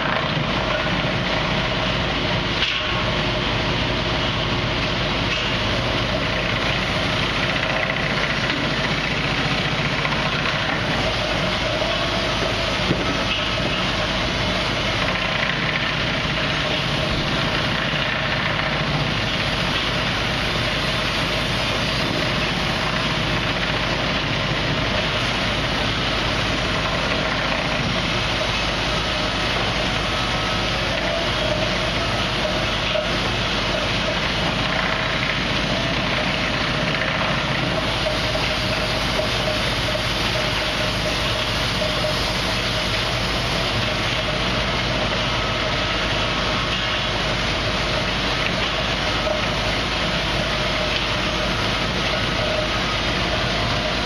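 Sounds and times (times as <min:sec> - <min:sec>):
sawmill machinery engine drone: 0:00.0 - 0:54.0.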